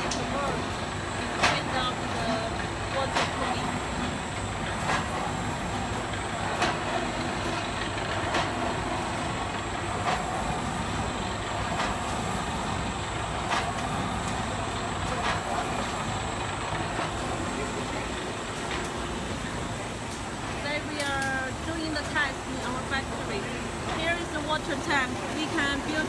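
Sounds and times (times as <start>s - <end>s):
furnace plant machinery running: 0.0s - 26.0s.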